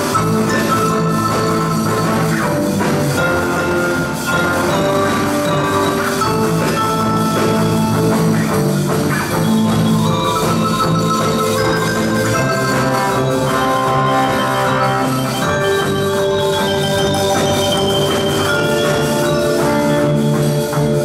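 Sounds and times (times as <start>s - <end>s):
band playing: 0.0s - 21.0s
marimbas playing: 0.0s - 21.0s.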